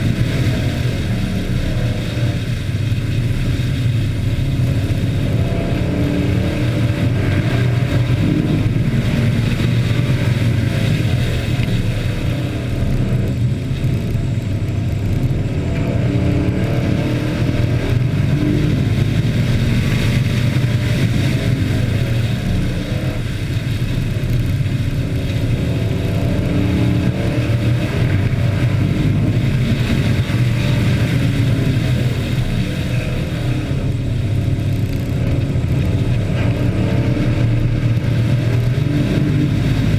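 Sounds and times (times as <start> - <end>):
race truck engines droning: 0.0 - 39.9.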